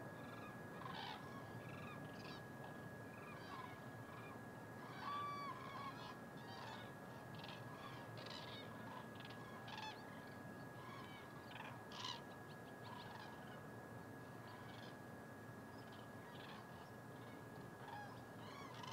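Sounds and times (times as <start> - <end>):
flock of cranes calling: 0.0 - 18.9.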